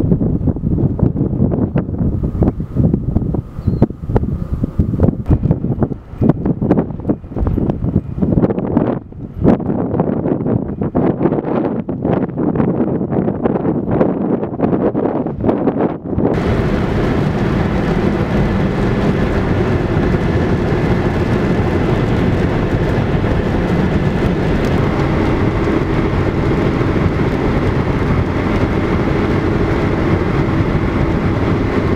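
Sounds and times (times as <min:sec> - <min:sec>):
car road and wind noise: 0:00.0 - 0:31.9.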